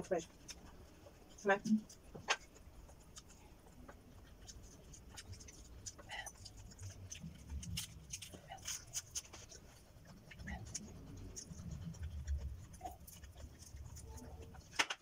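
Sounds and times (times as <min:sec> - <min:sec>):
chewing crisp vegetables: 0:00.0 - 0:15.0.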